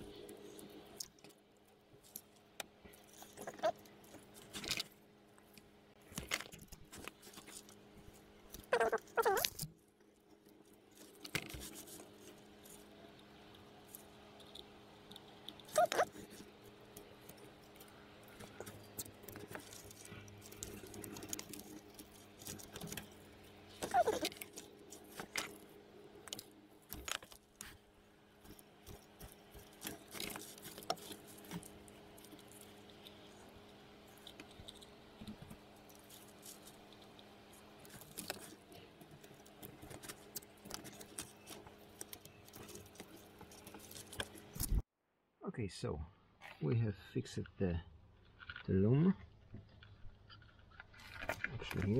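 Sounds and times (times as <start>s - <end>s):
wires clicking and rustling: 0.0s - 44.9s, 48.2s - 51.9s
faint steady hum: 0.0s - 51.9s.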